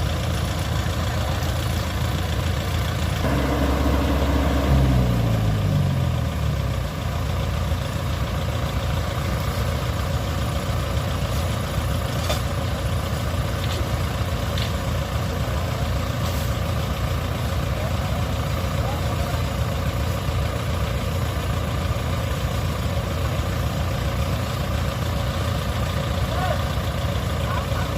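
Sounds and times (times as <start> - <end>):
heavy engine running: 0.0 - 27.9.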